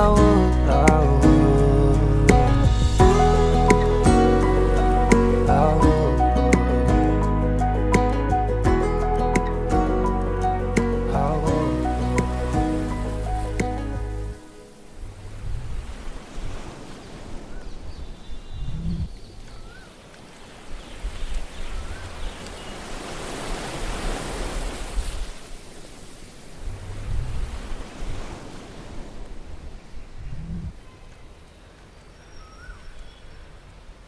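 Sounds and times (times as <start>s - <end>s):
sea waves washing in: 0.0s - 19.0s, 20.0s - 30.8s.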